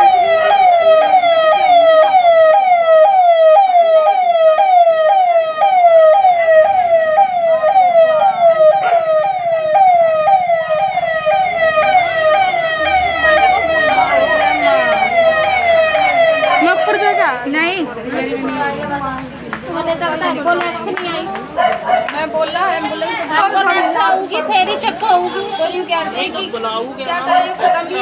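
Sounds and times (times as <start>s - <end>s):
ambulance siren yelping: 0.0s - 17.5s, 20.8s - 24.9s, 26.9s - 28.0s.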